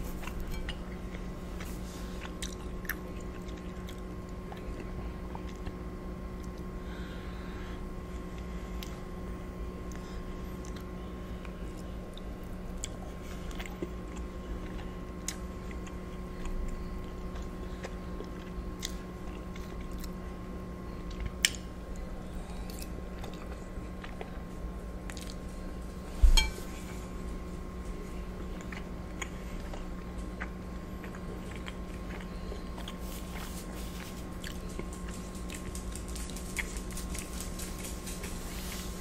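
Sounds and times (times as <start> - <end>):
steady low hum: 0.0 - 39.0
wet chewing sounds: 0.1 - 6.7, 9.8 - 20.2, 21.0 - 25.5, 26.9 - 39.0.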